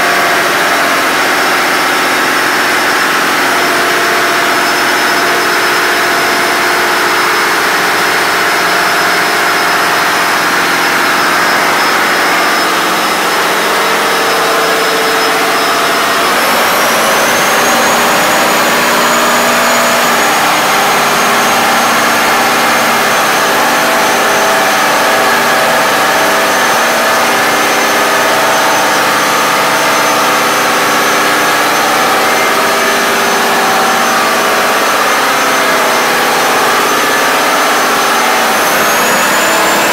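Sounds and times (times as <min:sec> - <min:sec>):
diesel engines running loud: 0:00.0 - 0:39.9
high whine: 0:00.0 - 0:39.9.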